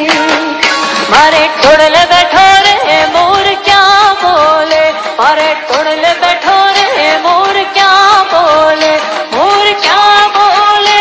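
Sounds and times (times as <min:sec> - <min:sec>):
song with singing over instruments: 0:00.0 - 0:11.0.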